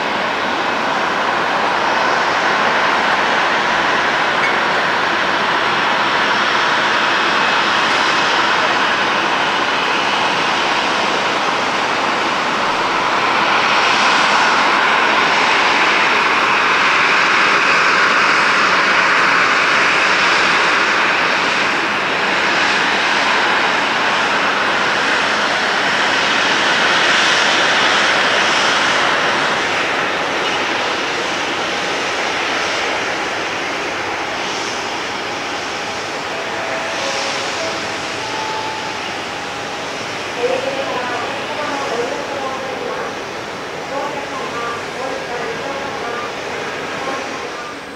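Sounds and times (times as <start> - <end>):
jet engine roar: 0.0 - 47.9.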